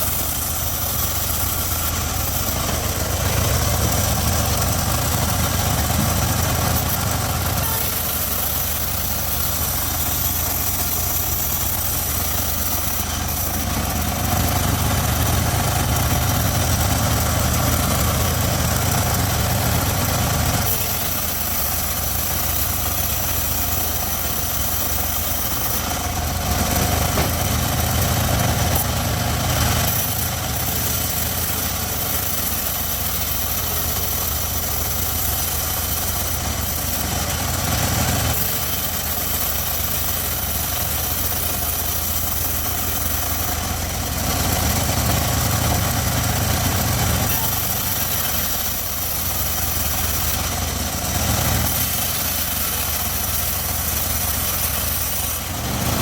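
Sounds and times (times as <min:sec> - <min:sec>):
saw high hiss: 0:00.0 - 0:56.0
sawmill engine humming: 0:00.0 - 0:56.0.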